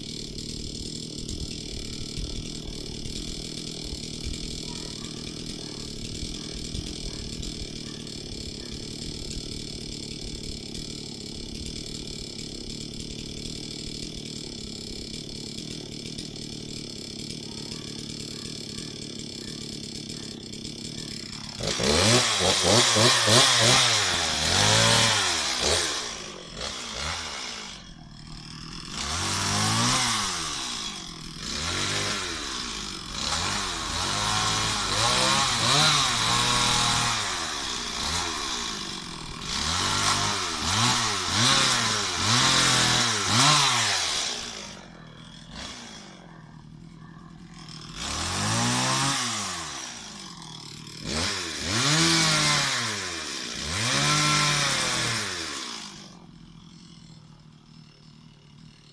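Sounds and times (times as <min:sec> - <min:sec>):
chainsaw revving: 0:00.0 - 0:58.9.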